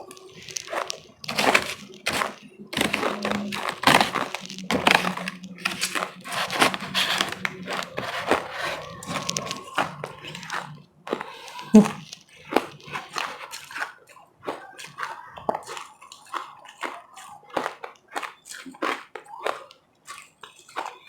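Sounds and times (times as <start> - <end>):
chewing ice crunches: 0.0 - 21.0.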